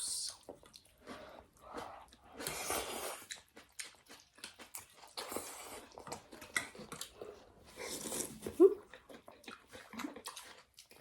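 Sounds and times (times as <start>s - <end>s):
person chewing noodle soup: 0.3s - 11.0s.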